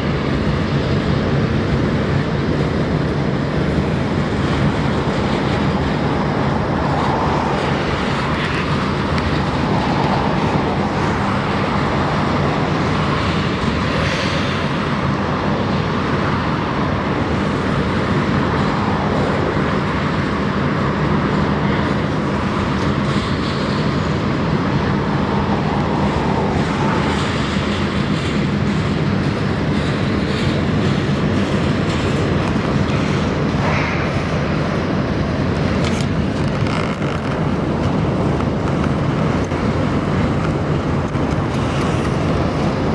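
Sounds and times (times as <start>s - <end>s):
train railcars rolling on track: 0.0s - 42.9s.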